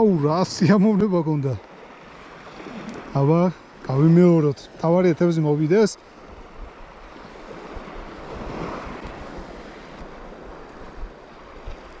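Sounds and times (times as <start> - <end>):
sea waves washing: 0.0 - 12.0.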